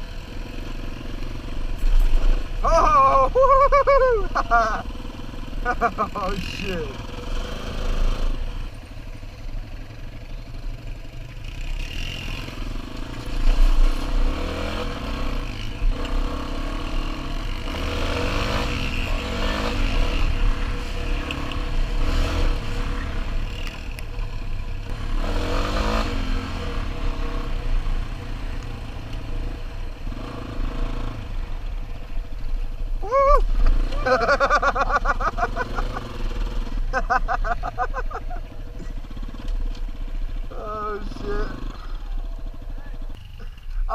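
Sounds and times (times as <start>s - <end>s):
motorcycle engine revving: 4.3s - 43.9s.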